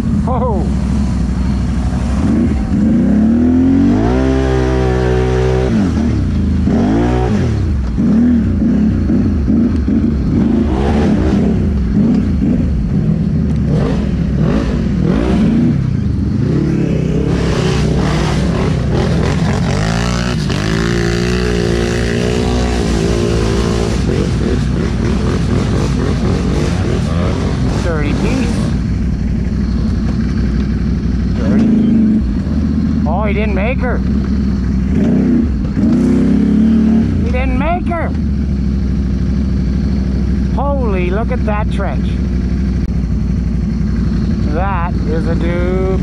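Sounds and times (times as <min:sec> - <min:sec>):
off-road engines revving: 0:00.0 - 0:46.0.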